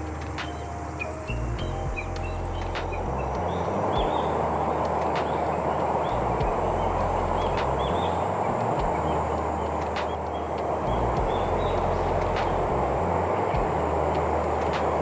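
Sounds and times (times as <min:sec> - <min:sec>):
small birds chirping: 0:00.0 - 0:15.0
steady rushing noise: 0:00.0 - 0:15.0.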